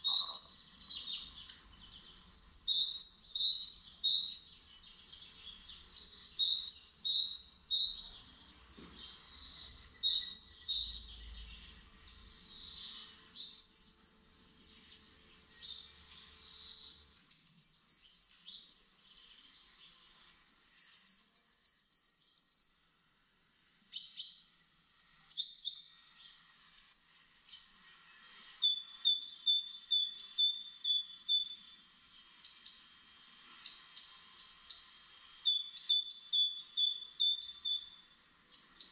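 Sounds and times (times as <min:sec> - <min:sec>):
small songbirds singing: 0:00.0 - 0:23.0, 0:23.6 - 0:38.9.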